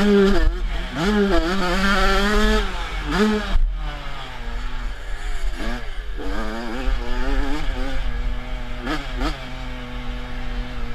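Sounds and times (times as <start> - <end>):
motocross bike engine revving: 0.0 - 10.9.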